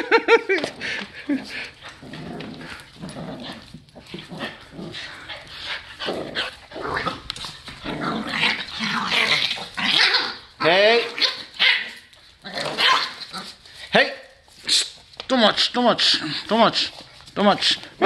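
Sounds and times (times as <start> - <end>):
dogs play-fighting noises: 0.5 - 15.2, 16.0 - 18.0.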